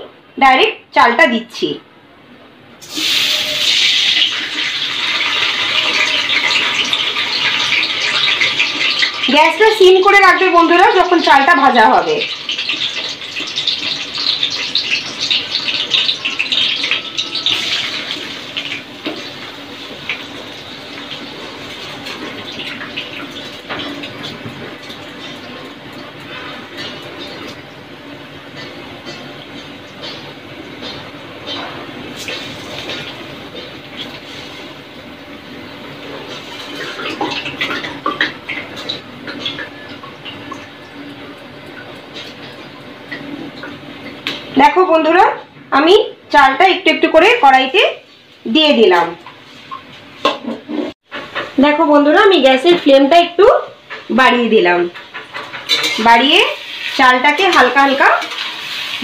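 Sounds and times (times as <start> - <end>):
rice sizzling in hot oil: 2.8 - 44.6, 48.0 - 59.0.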